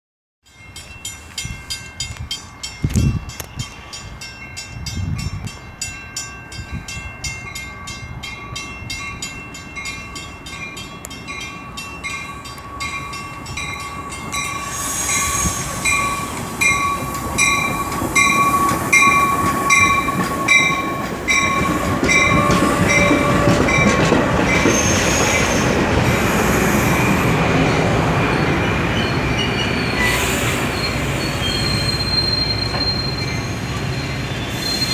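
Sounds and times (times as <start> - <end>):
train cars rumbling past: 0.5 - 34.9.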